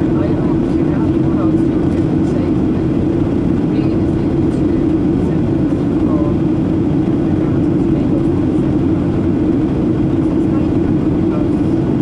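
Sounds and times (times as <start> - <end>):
jet engines droning: 0.0 - 12.0.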